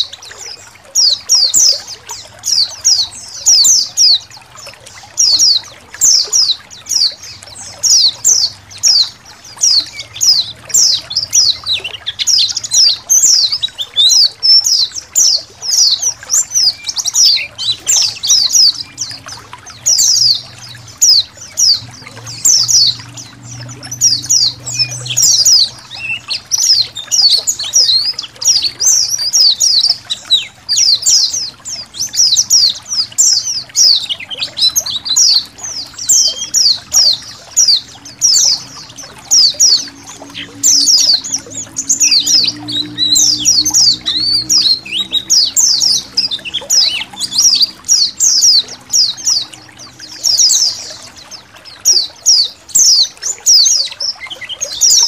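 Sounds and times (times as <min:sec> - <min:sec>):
faint trickling water: 0:00.0 - 0:55.0
flock of birds chirping: 0:00.0 - 0:55.0.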